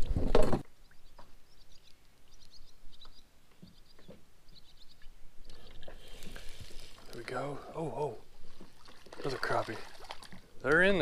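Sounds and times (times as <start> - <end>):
songbirds chirping and trilling: 0.0 - 9.1.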